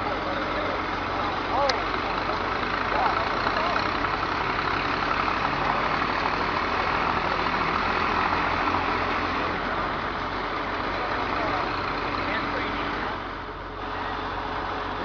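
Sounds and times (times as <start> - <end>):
tractor engines running: 0.0 - 15.0.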